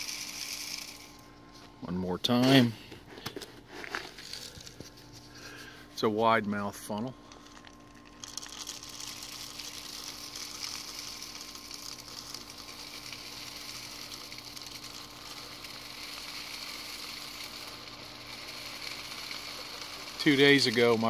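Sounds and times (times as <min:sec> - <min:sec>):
grains pouring through a funnel: 0:00.0 - 0:01.3, 0:03.7 - 0:05.8, 0:06.9 - 0:21.0.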